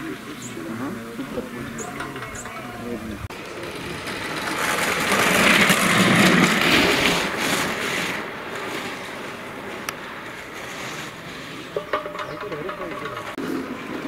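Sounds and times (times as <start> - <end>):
car wheels rumbling on road: 0.2 - 14.0.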